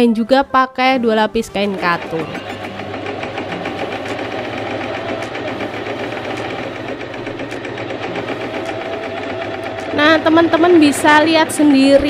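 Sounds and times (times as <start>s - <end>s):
sewing machine stitching: 1.3s - 12.0s.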